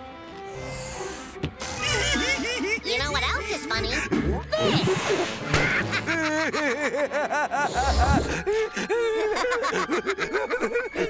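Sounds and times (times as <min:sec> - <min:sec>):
cartoon characters laughing: 0:01.8 - 0:11.0.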